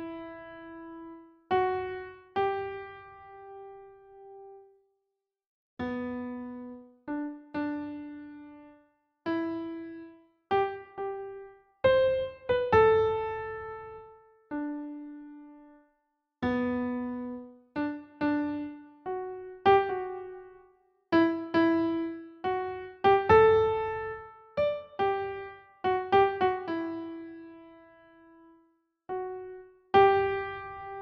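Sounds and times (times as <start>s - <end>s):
slow gentle piano melody: 0.0s - 4.8s, 5.8s - 31.0s.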